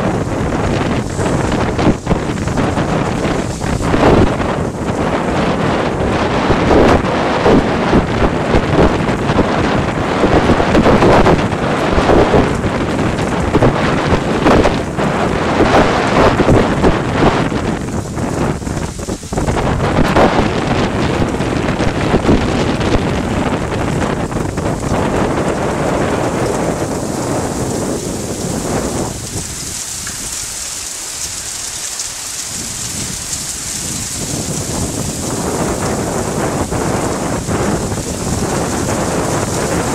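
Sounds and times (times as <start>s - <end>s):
low rumble of thunder: 0.0s - 30.4s, 32.5s - 39.9s
heavy rain: 0.0s - 39.9s
wind buffeting microphone: 0.0s - 39.9s.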